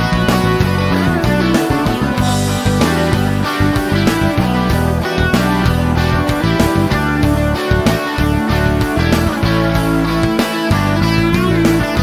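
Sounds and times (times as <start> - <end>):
guitar-led rock music: 0.0 - 12.0.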